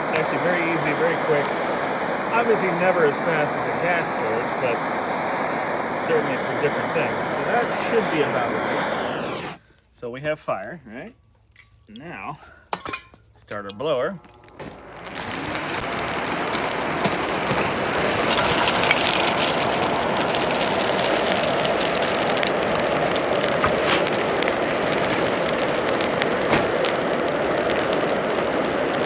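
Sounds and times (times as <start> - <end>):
forge blower whirring: 0.0 - 9.6, 14.2 - 29.0.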